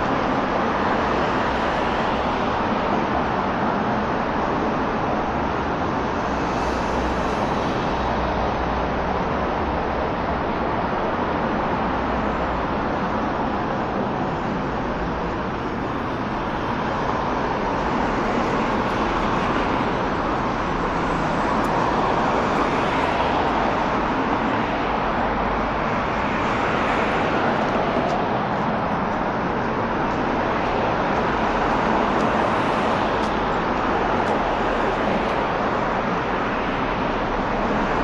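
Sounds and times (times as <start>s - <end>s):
cars passing with tyre noise: 0.0s - 38.0s.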